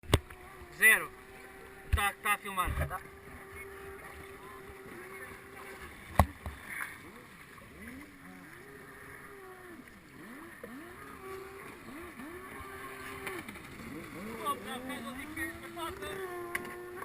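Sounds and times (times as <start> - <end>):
faint jet ski engines revving: 0.0 - 17.0.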